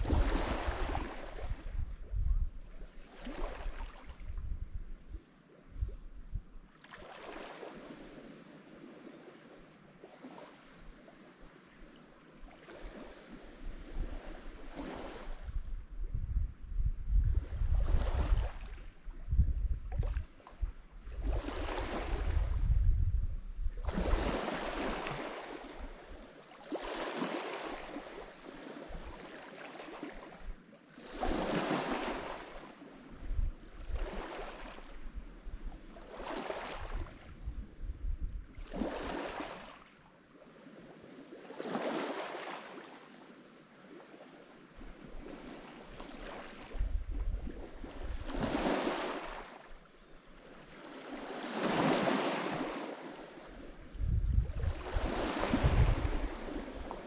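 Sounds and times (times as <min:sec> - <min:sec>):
waves breaking on shore: 0:00.0 - 0:01.9, 0:02.7 - 0:04.4, 0:06.7 - 0:15.7, 0:17.4 - 0:19.2, 0:19.9 - 0:22.7, 0:23.7 - 0:37.6, 0:38.5 - 0:57.0.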